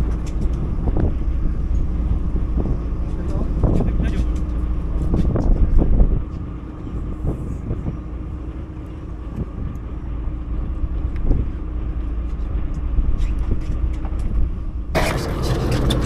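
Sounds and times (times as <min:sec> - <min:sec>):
boat engine idling: 0:00.0 - 0:16.0
wind rumbling on microphone: 0:00.0 - 0:16.0.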